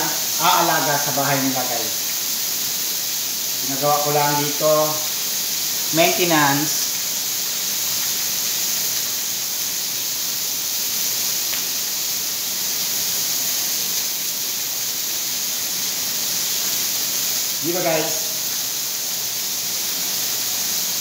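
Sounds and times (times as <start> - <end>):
chicken sizzling on griddle: 0.0 - 21.0.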